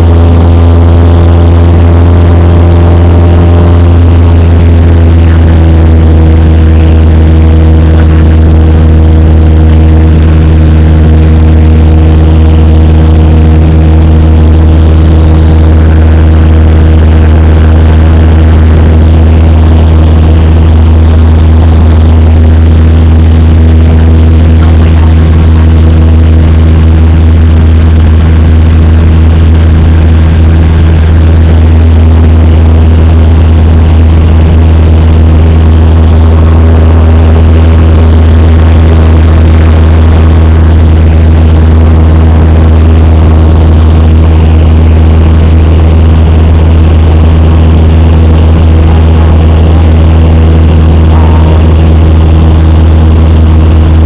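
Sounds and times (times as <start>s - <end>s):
airplane engine drone in cabin: 0.0s - 54.0s.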